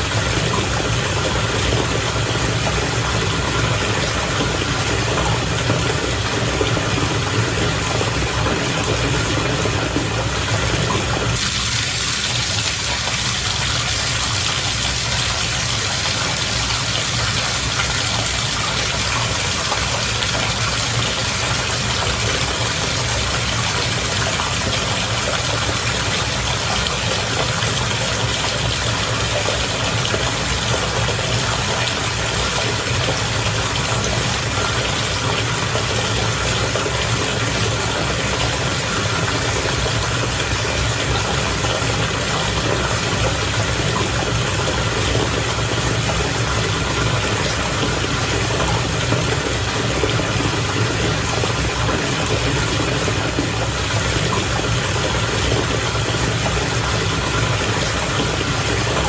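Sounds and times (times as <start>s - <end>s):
bathwater bubbling: 0.0s - 59.0s
bubble motor hum: 0.0s - 59.0s.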